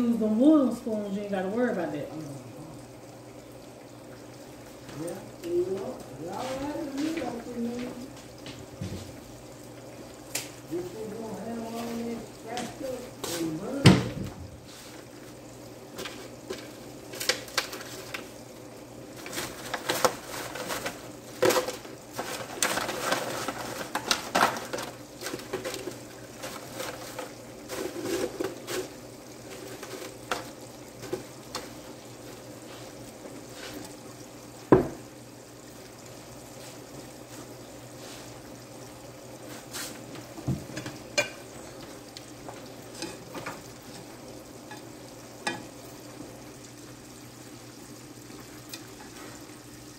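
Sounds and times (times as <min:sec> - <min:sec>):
fries sizzling in hot oil: 0:00.0 - 0:49.9.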